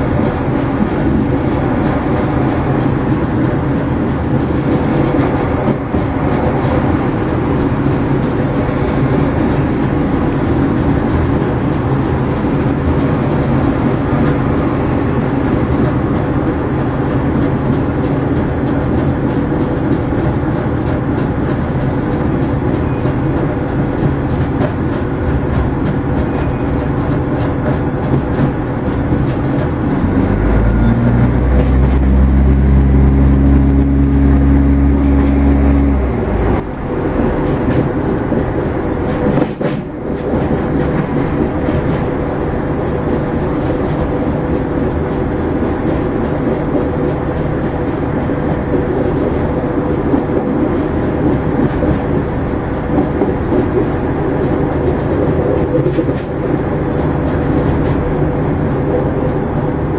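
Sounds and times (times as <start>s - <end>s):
clicking on rails: 0.0s - 59.9s
diesel engine drone: 0.0s - 59.9s
wheels rumbling: 0.0s - 59.9s.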